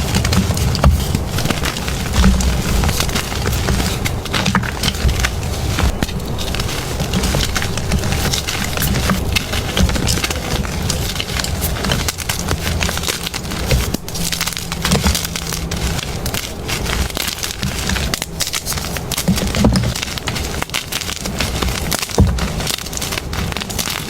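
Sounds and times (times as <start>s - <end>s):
chalk crunching by hand: 0.0s - 24.0s.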